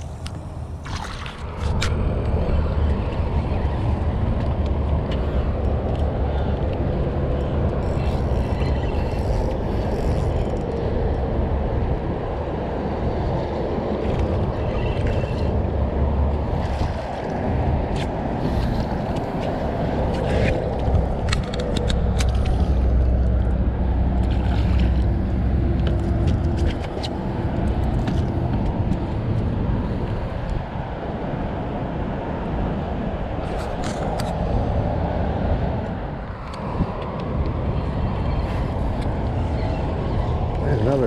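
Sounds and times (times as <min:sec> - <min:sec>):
boat motor rumbling: 0:00.0 - 0:41.0.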